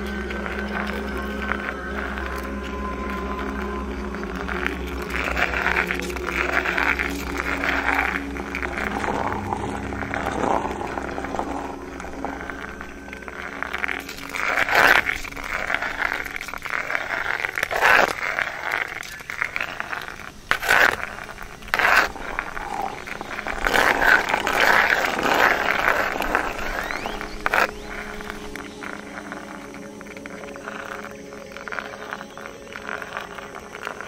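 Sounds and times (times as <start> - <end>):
grainy scraping crackling noise: 0.0 - 34.0
low drone tones: 0.0 - 34.0.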